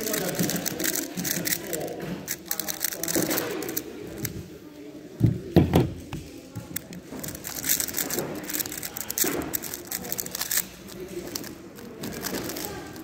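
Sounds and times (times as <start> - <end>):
puzzle cube clicking: 0.0 - 4.4, 6.0 - 13.0.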